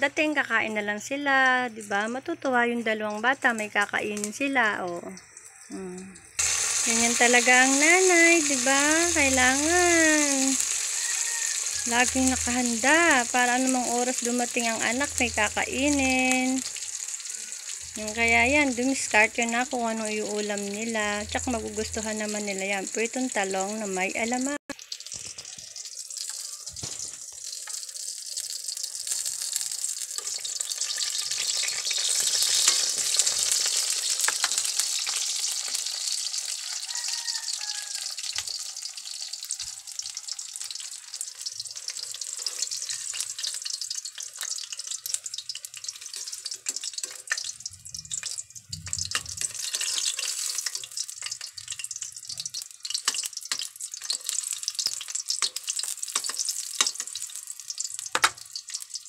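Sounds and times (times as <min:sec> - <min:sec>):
slices frying in hot oil: 0:00.0 - 0:59.0.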